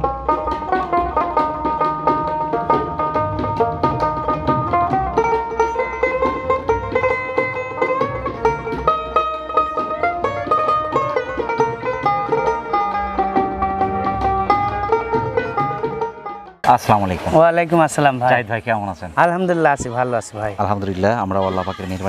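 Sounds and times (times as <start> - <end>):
fast plucked banjo melody: 0.0 - 18.4.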